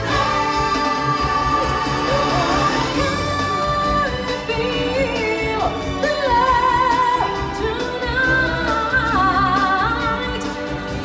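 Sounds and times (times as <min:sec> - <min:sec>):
backing track music: 0:00.0 - 0:11.0
singing with vibrato: 0:00.0 - 0:11.0.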